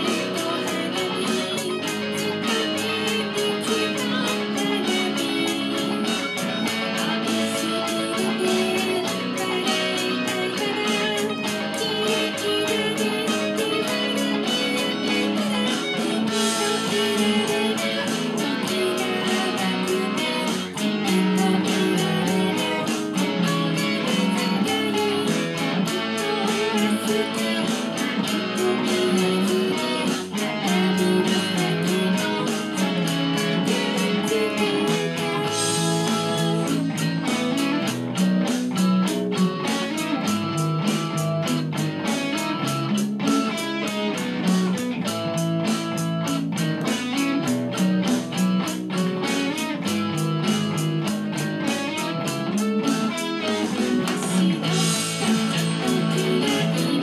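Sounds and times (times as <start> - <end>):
electric guitar playing a ballad: 0.0 - 57.0.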